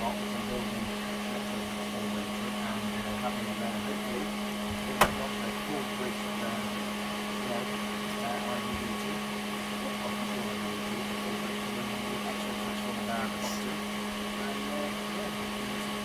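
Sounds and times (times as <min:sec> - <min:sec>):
electrical equipment humming: 0:00.0 - 0:16.0.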